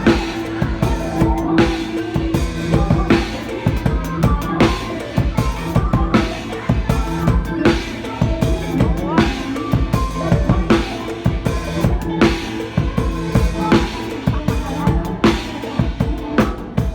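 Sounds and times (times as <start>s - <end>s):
band instrumental backing: 0.0s - 16.9s
drum kit playing: 0.0s - 16.9s.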